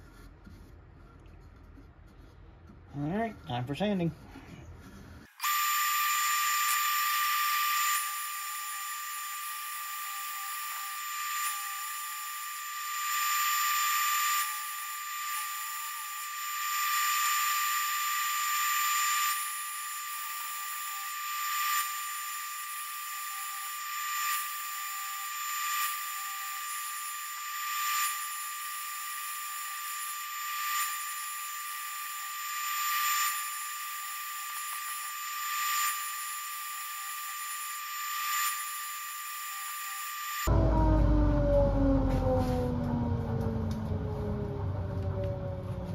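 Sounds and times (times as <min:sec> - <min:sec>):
drill motor whine: 0:05.3 - 0:45.9.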